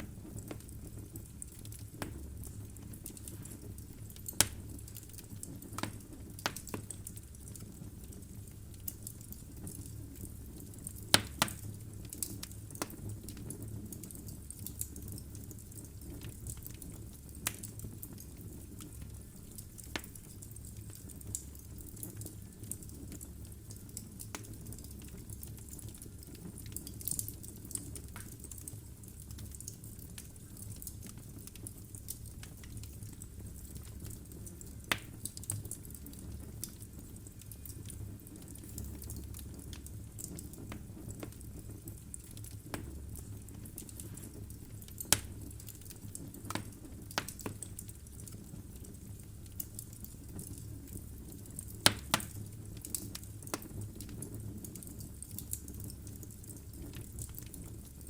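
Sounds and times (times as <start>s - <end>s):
logs crackling and popping: 0.0s - 58.0s
low rumble of flames: 0.0s - 58.0s.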